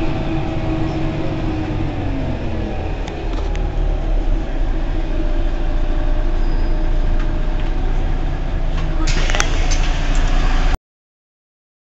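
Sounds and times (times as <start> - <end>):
bus engine rumbling: 0.0 - 10.8.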